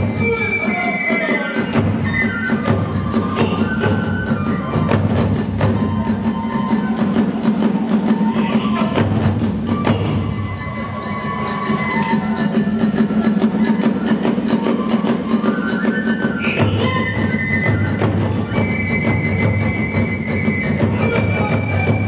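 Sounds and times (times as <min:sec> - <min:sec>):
high flute melody: 0:00.0 - 0:22.0.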